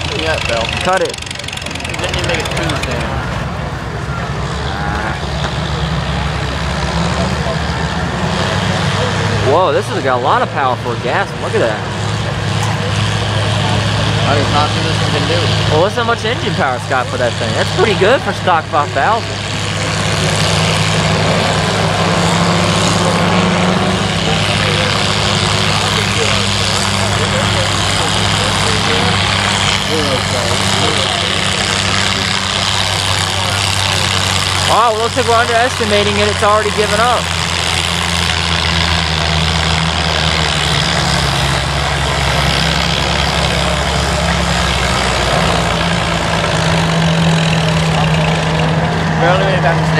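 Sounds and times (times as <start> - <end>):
tractor engine under heavy load: 0.0 - 49.9.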